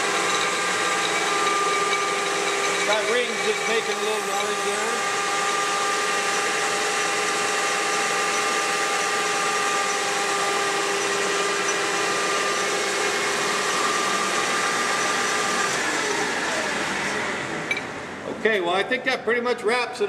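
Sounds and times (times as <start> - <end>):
lathe gear whine: 0.0 - 18.4.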